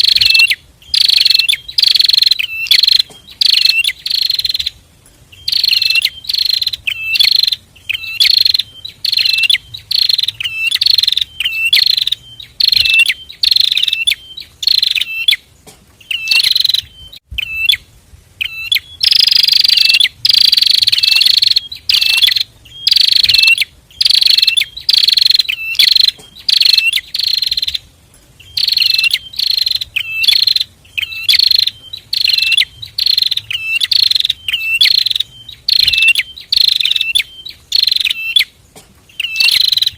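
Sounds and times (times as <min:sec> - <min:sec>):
birds singing buzzy chattering notes: 0:00.0 - 0:39.9.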